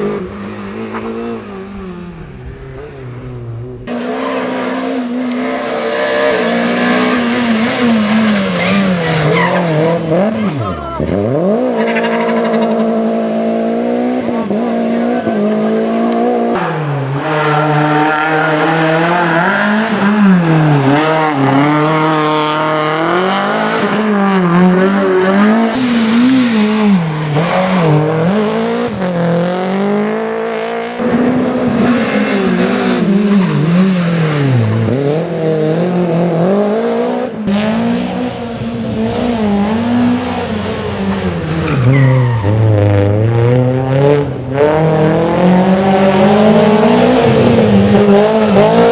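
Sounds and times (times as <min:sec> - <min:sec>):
car engine revving hard: 0:03.9 - 0:41.7, 0:42.4 - 0:48.9.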